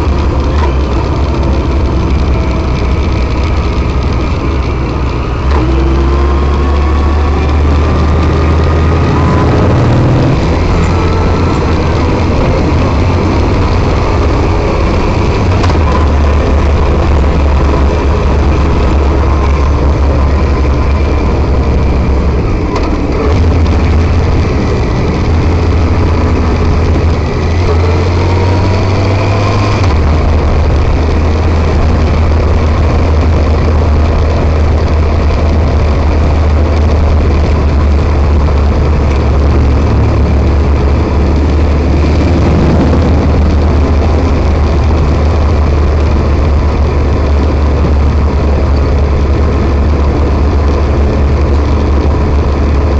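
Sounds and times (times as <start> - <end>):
motorcycle engine: 0.0 - 52.9
wind on microphone: 0.0 - 52.9.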